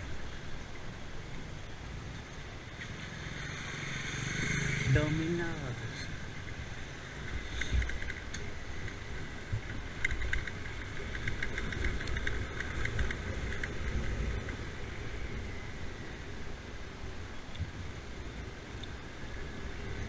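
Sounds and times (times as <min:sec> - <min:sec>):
motorbike engine and road rumble: 0:00.0 - 0:20.0.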